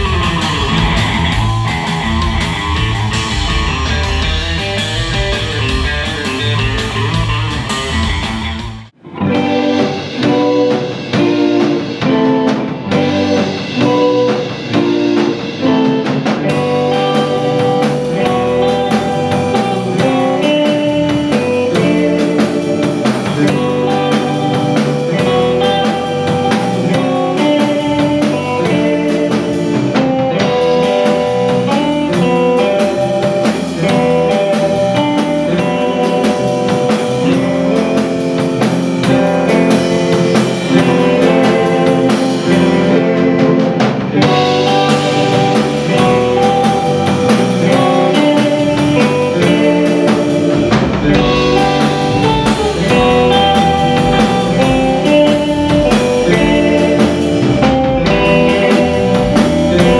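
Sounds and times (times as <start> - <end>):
drum kit: 0.0 - 59.9
electric bass: 0.0 - 59.9
electric guitar melody: 0.0 - 59.9.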